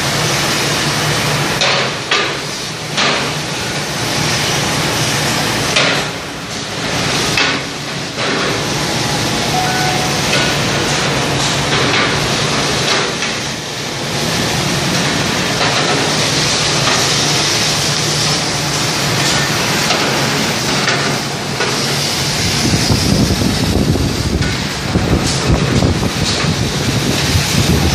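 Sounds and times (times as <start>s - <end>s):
industrial washing machine running: 0.0s - 27.9s.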